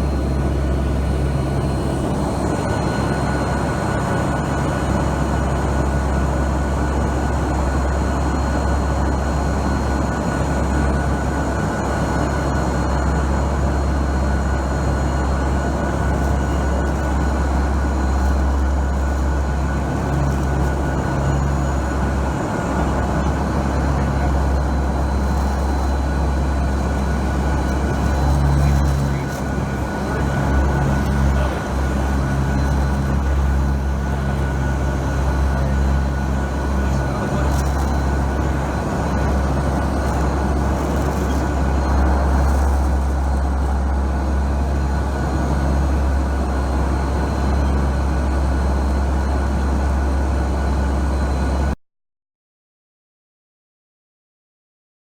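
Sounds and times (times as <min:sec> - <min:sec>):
turboprop engines droning in cabin: 0:00.0 - 0:51.8.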